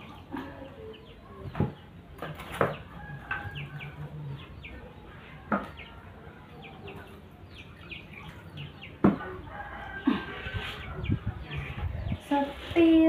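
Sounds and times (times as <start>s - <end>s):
chickens and birds chirping: 0.0s - 13.0s.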